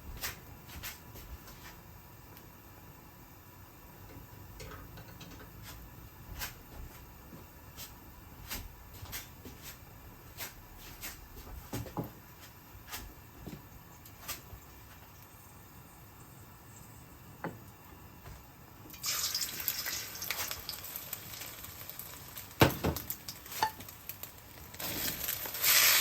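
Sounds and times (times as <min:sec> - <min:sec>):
low steady hum: 0:00.0 - 0:22.4.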